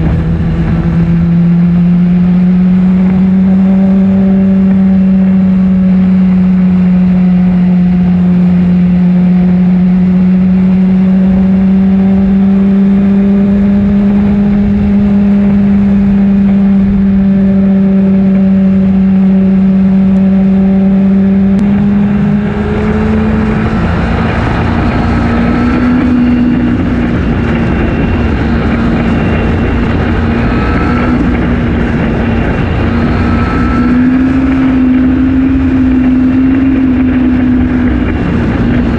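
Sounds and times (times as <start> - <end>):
wind rush: 0.0 - 8.9, 9.7 - 38.9
motorcycle engine running: 0.0 - 38.9.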